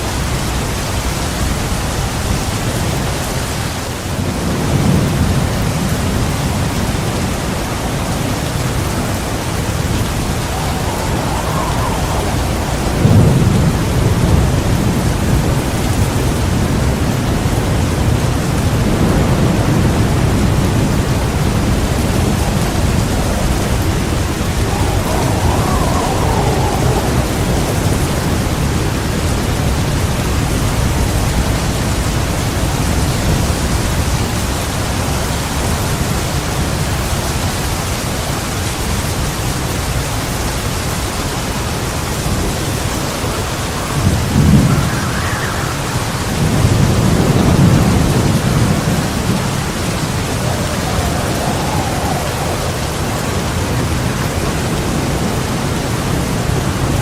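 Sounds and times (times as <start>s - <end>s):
heavy rain falling: 0.0s - 57.0s
low thunder rumbling: 4.2s - 34.5s, 41.5s - 57.0s.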